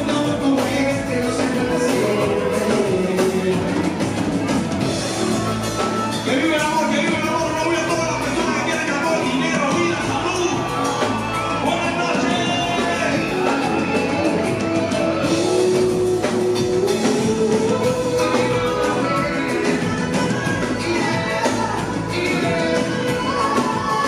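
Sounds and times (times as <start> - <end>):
live band music: 0.0 - 24.0
person singing: 0.0 - 24.0.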